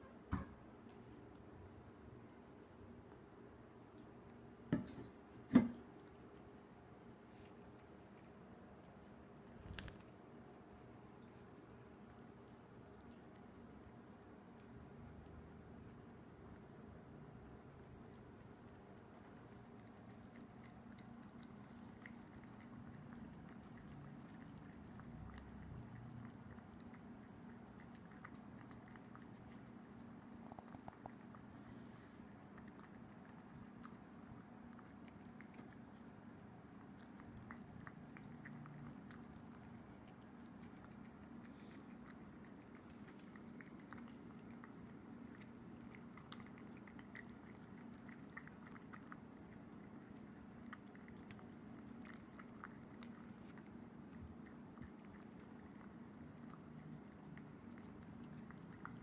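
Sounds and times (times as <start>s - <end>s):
kitten chewing food: 0.0s - 59.0s
steady low hum: 0.0s - 59.0s.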